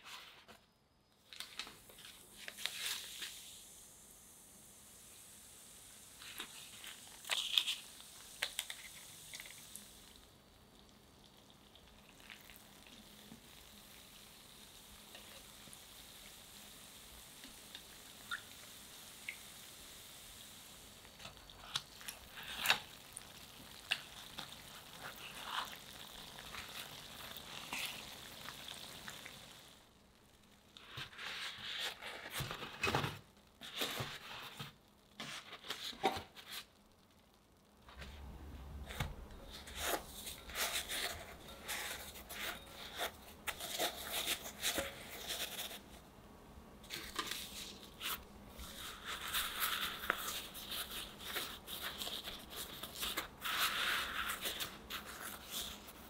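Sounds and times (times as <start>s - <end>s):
donuts sizzling in oil: 1.7s - 37.8s, 46.8s - 56.0s.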